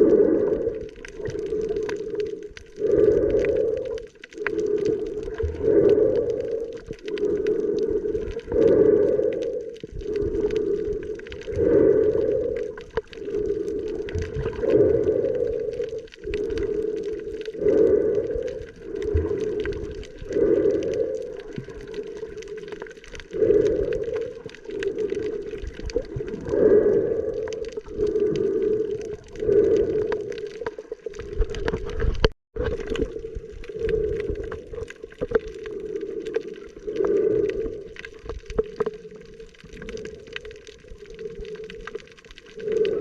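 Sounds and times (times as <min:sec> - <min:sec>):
gurgling snorkel breathing: 0:00.0 - 0:43.0.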